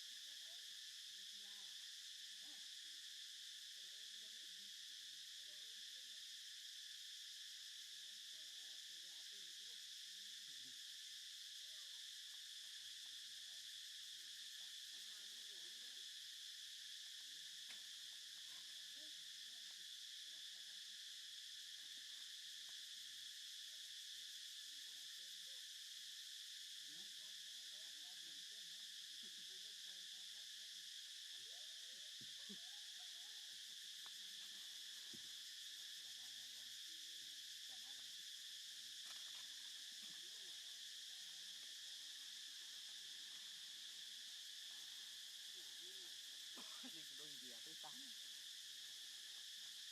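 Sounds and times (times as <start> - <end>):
insects droning: 0.0 - 49.9.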